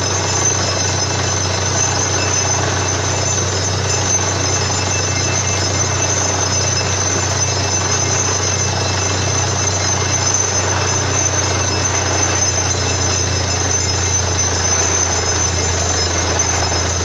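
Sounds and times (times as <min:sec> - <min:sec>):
drilling rig engine humming: 0:00.0 - 0:17.0.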